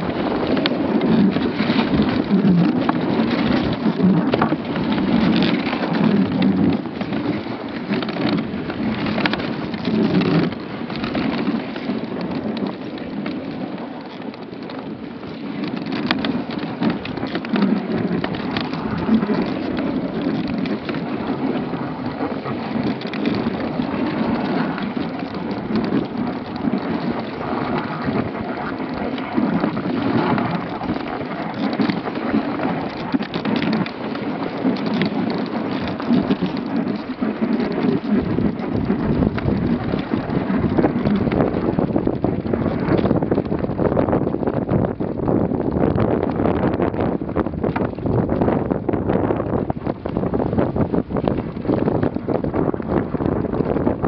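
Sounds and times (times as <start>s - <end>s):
sled runners scraping over snow: 0.0s - 54.0s.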